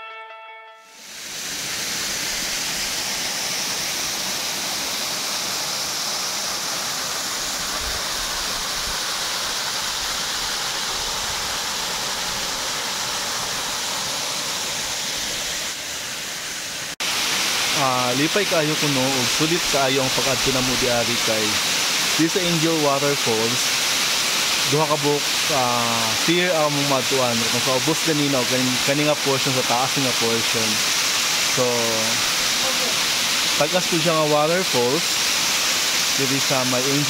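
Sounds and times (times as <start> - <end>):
waterfall rushing: 1.0 - 37.0.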